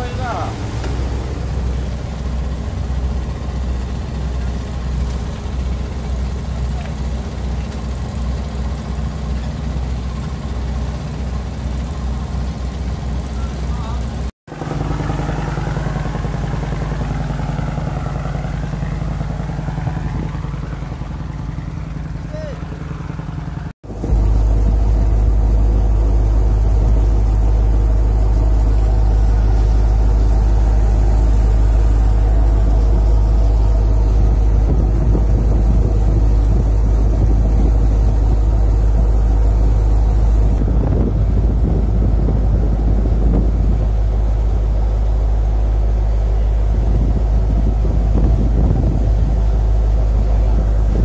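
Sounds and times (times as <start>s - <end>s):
boat engine humming: 0.0s - 51.0s.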